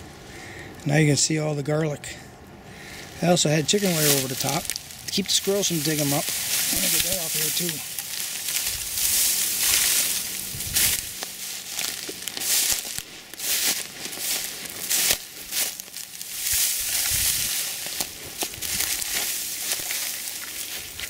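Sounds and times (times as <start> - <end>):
rustling and crackling of mulch and wire: 0.0 - 21.0.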